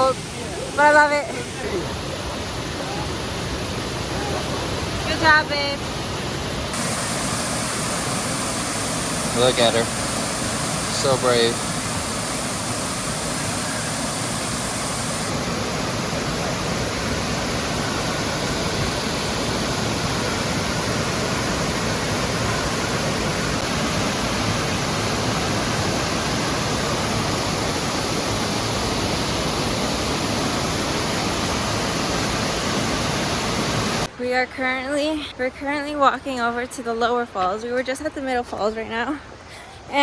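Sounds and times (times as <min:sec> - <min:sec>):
waterfall rushing: 0:00.0 - 0:34.1.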